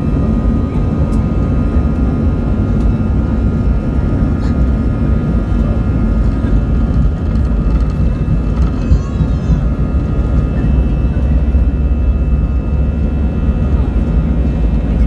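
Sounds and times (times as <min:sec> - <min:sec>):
jet engine whining tones: 0:00.0 - 0:15.0
jet engines low rumble: 0:00.0 - 0:15.0.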